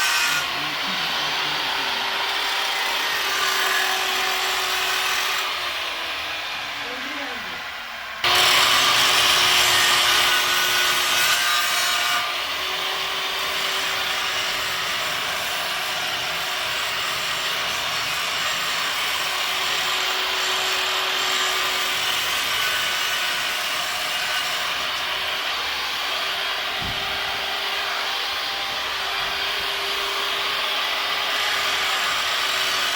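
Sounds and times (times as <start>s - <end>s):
angle grinder grinding: 0.0s - 32.9s.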